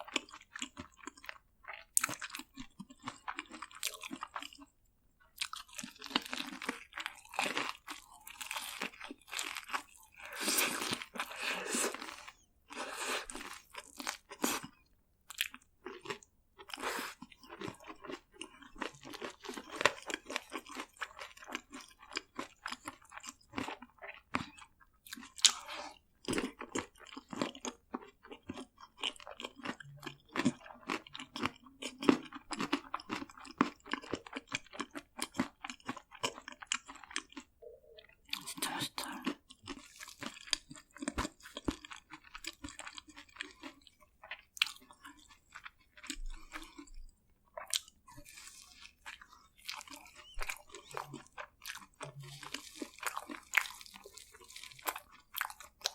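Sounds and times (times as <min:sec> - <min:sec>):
crunching fried food: 0:00.0 - 0:37.5, 0:38.3 - 0:46.9, 0:47.5 - 0:55.9.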